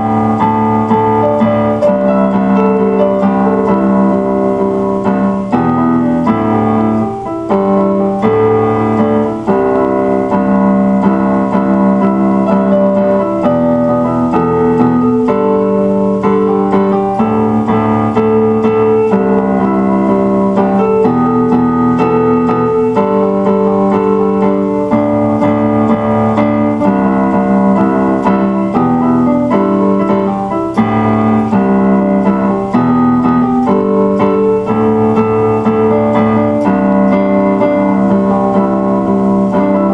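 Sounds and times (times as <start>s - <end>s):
piano piece with held chords: 0.0s - 39.9s.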